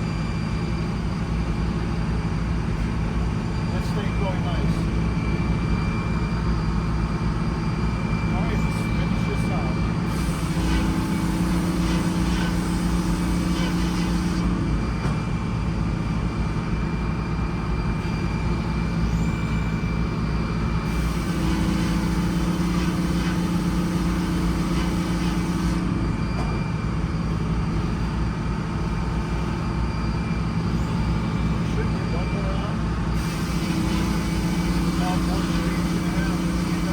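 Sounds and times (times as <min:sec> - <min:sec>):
sawmill engine drone: 0:00.0 - 0:36.9.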